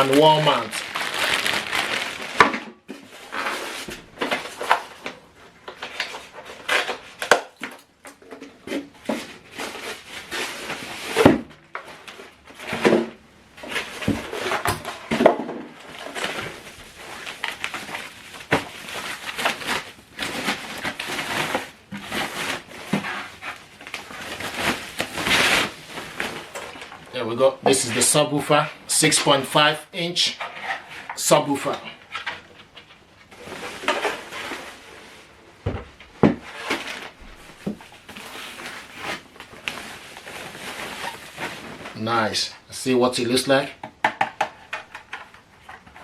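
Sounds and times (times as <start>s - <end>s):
packing material rustling: 0.0s - 28.0s, 30.3s - 35.6s, 36.4s - 42.7s.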